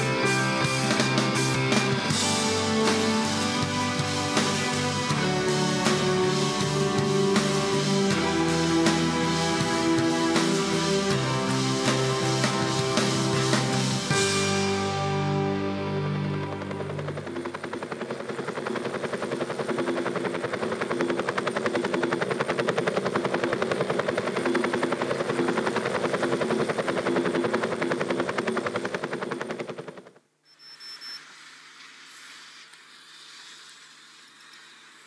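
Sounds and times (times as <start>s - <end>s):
drone rotors buzzing: 0.0s - 35.0s.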